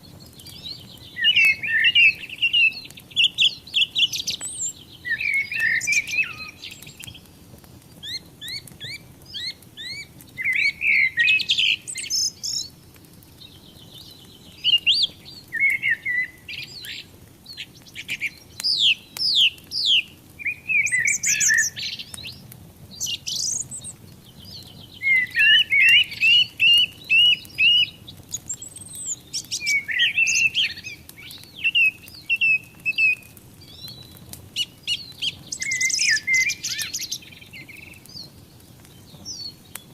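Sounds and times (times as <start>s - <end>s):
fire crackling: 0.0s - 39.9s
songbirds chirping and singing: 0.0s - 39.9s.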